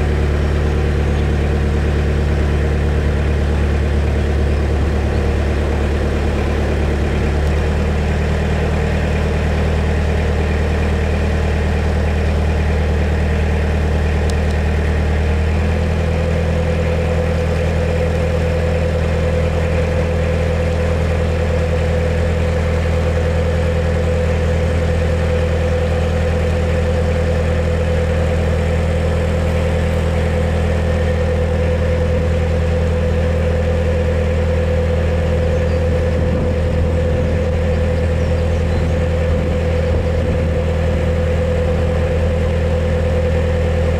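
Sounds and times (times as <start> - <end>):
higher hum: 0.0 - 11.1, 14.3 - 43.9
boat diesel engine running: 0.0 - 43.9.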